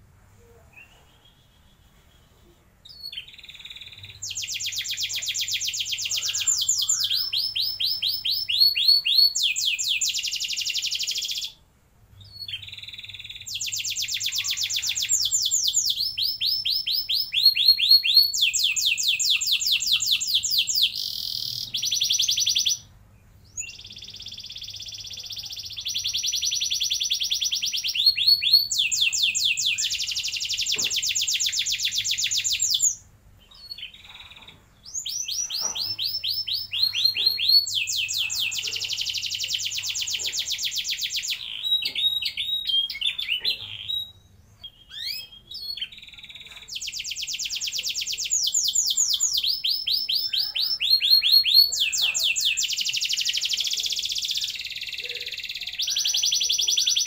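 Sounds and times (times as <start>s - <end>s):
canary singing trills: 0.6s - 11.6s, 12.2s - 57.0s.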